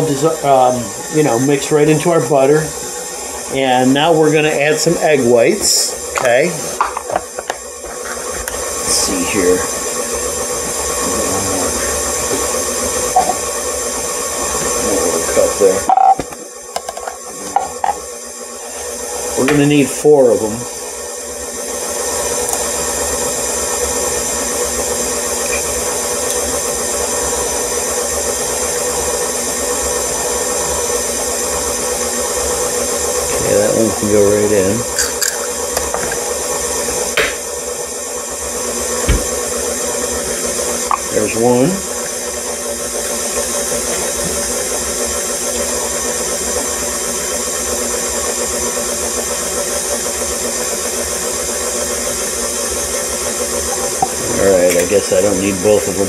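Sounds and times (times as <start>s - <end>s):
stand mixer beating in metal bowl: 0.0s - 56.0s.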